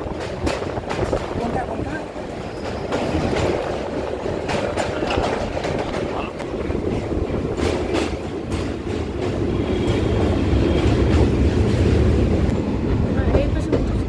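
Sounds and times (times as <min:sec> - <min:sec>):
train coaches rumbling: 0:00.0 - 0:14.0
wheels clicking over rail joints: 0:00.0 - 0:14.0.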